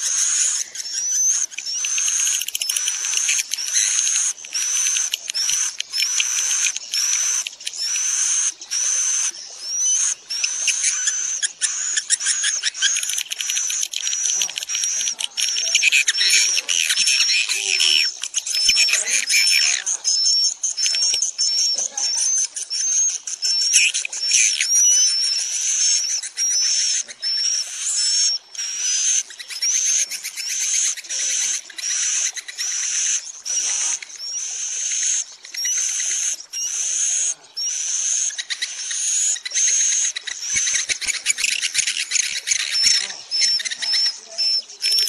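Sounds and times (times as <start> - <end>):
swiftlets chirping and twittering: 0.0 - 45.0.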